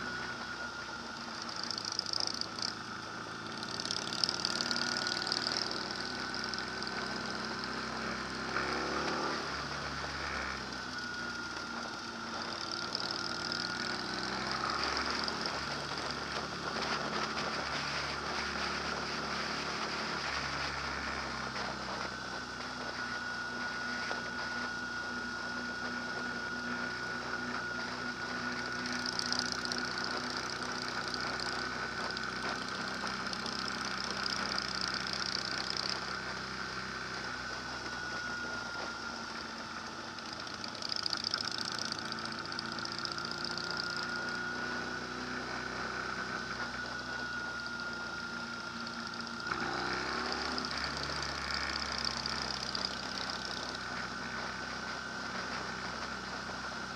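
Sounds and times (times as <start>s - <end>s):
engine running: 0.0s - 56.9s
high whine: 0.0s - 56.9s.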